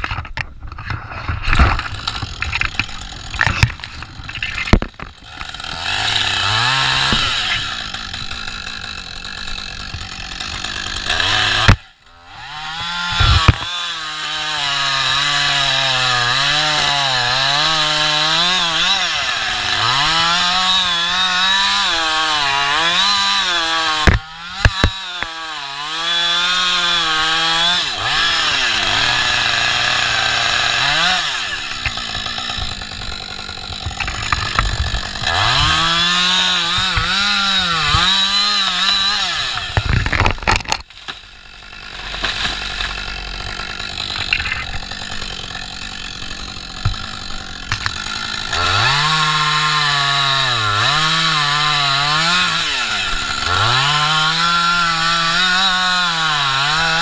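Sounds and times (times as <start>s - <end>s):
chainsaw cutting wood: 0.0s - 57.0s
wood cracking: 0.0s - 57.0s.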